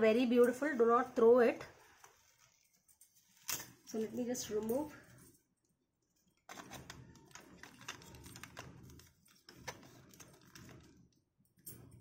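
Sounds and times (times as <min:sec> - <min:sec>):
doll clothes rustling and clicking: 0:00.4 - 0:11.9.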